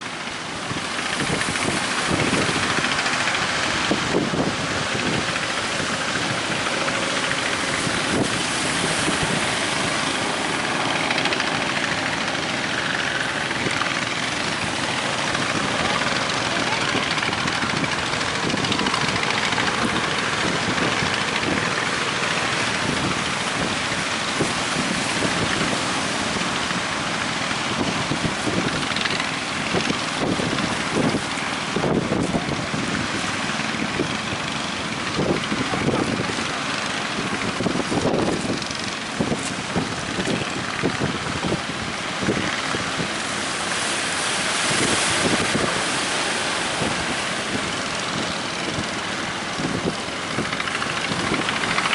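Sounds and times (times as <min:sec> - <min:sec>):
boat engine: 0:00.0 - 0:51.9
rushing sea noise: 0:00.0 - 0:51.9
wind buffeting microphone: 0:00.0 - 0:51.9.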